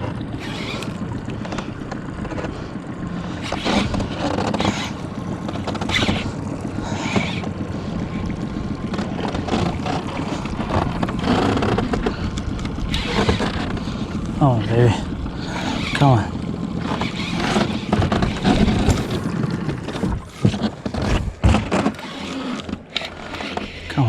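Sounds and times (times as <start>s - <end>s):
water noise: 0.0s - 24.0s
wind: 0.0s - 24.0s.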